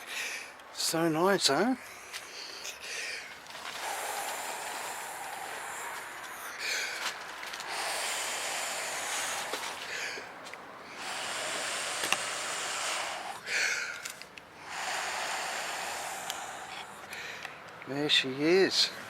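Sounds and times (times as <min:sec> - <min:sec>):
man breathing heavily: 0:00.0 - 0:00.7, 0:01.6 - 0:17.7.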